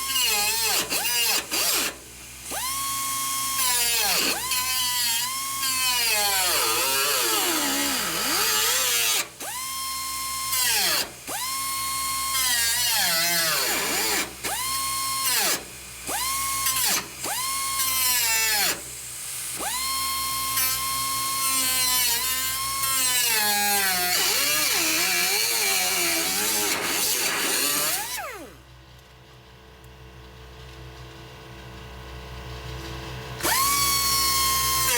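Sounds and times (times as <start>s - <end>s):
power grinder whining: 0.0s - 28.6s, 33.4s - 34.9s.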